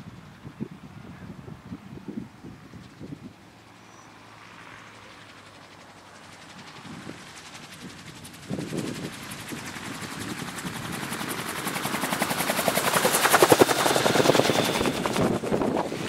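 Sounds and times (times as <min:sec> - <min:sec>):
gyroplane engine and propeller: 0:00.0 - 0:16.0.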